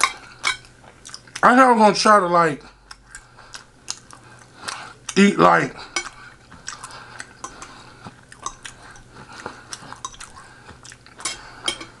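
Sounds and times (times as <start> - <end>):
person chewing food: 0.0 - 1.6, 2.6 - 12.0.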